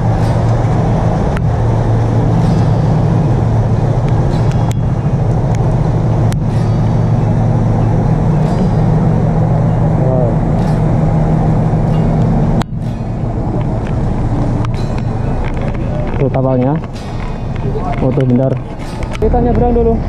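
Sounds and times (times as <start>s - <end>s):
idling vehicle engines humming: 0.0s - 20.0s.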